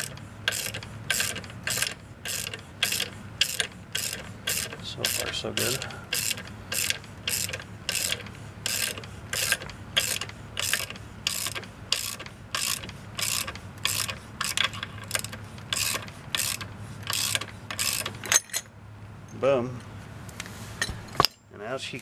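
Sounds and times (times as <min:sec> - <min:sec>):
ratchet wrench clicking: 0:00.0 - 0:18.7.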